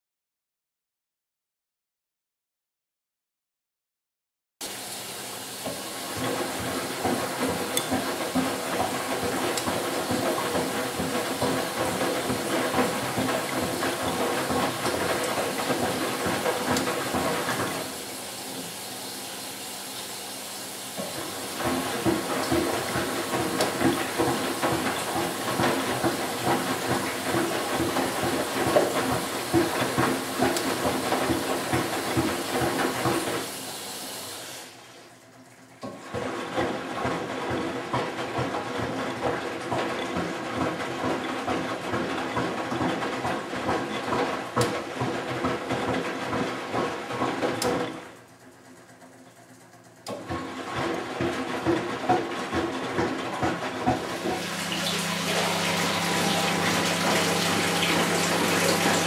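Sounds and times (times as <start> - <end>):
washing machine drum sloshing: 4.7 - 49.1, 49.8 - 59.0.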